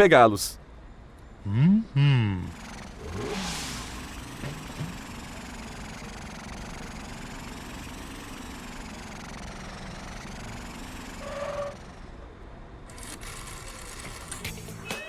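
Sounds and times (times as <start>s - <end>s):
cartoon vehicle engine: 1.4s - 15.0s.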